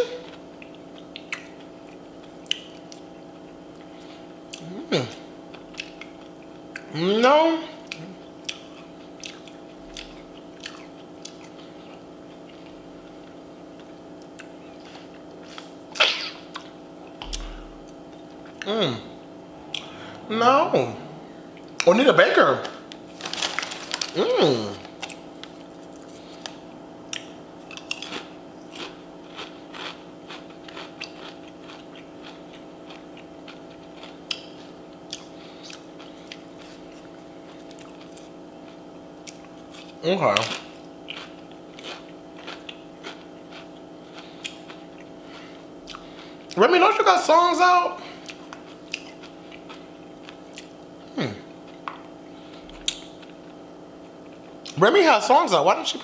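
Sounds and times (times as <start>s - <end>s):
person chewing crunchy chips: 0.0s - 7.2s, 7.8s - 19.0s, 19.6s - 47.0s, 48.0s - 54.8s
steady faint hum: 0.0s - 56.0s.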